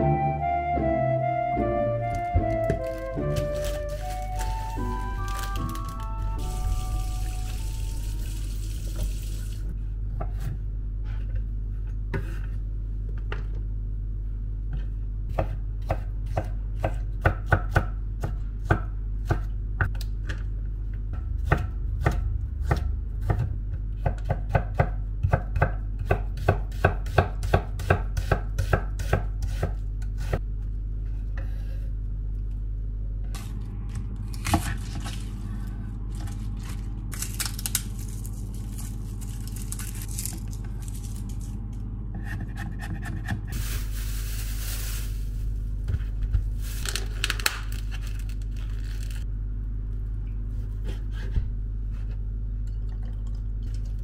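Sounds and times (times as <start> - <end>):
steady low hum: 1.7 - 54.0.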